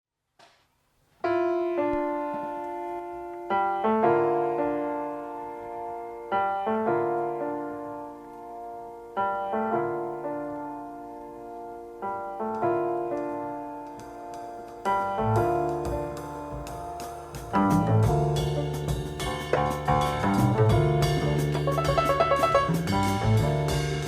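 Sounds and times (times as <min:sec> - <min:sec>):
slow piano chords: 0:01.2 - 0:24.0.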